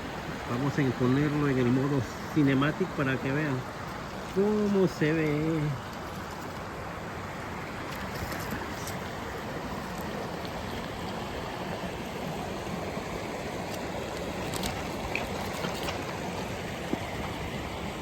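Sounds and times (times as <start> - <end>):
faint water splashes: 0.0 - 18.0
river rushing: 0.0 - 18.0.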